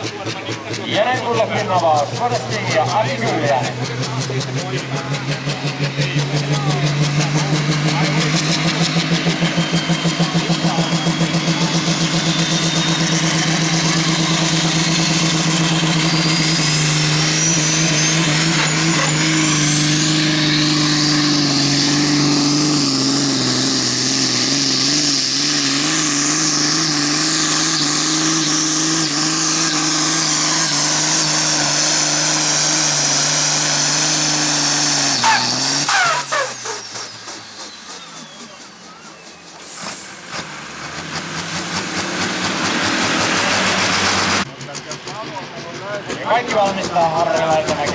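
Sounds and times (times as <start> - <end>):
tractor engine at full power: 0.0 - 47.9.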